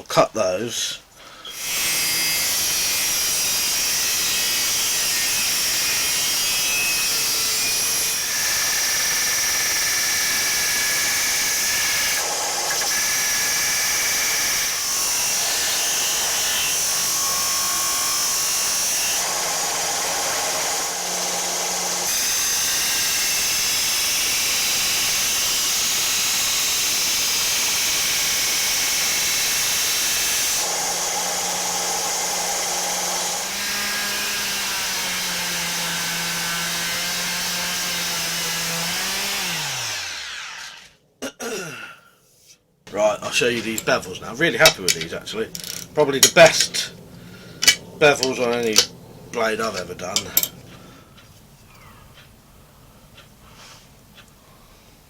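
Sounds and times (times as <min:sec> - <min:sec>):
power tool grinding steel: 0:01.5 - 0:40.9, 0:42.9 - 0:50.9.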